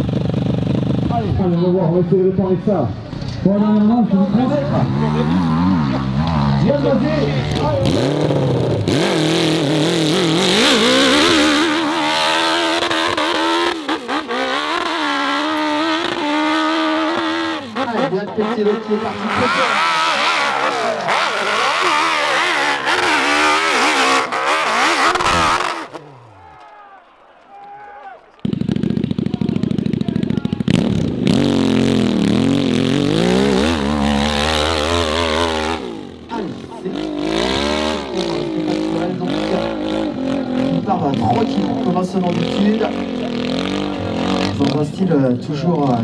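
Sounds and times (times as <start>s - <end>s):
motorcycle engine revving: 0.0s - 26.6s, 28.4s - 46.0s.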